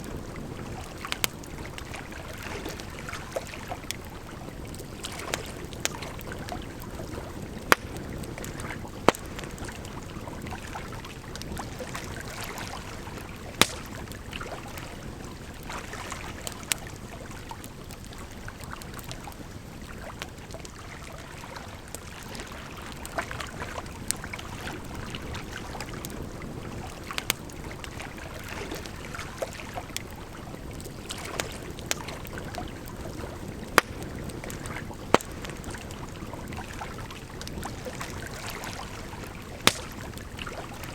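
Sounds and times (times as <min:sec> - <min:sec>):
campfire crackling and popping: 0:00.0 - 0:40.9
rushing water: 0:00.0 - 0:40.9.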